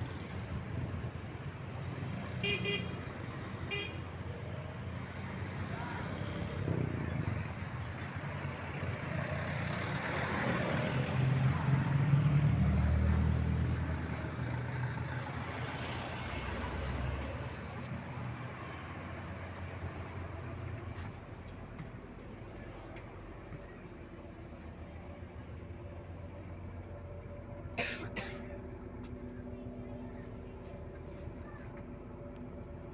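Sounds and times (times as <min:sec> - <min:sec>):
heavy vehicle engine rumble: 0:00.0 - 0:32.9.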